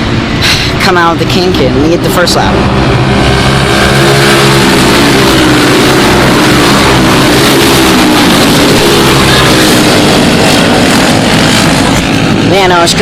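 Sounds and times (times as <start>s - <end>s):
racing go-kart engines: 0.0s - 13.0s.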